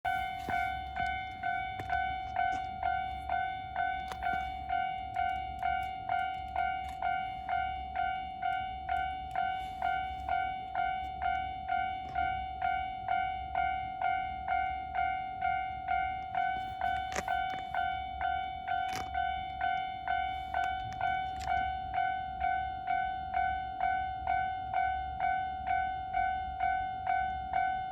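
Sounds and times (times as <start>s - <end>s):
level crossing warning bell dinging: 0.0s - 27.9s.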